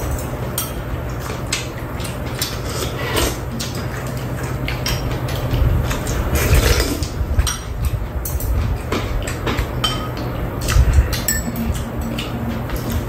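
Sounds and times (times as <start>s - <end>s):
steady low hum: 0.0s - 13.0s
utensils clicking against bowls: 0.0s - 13.0s.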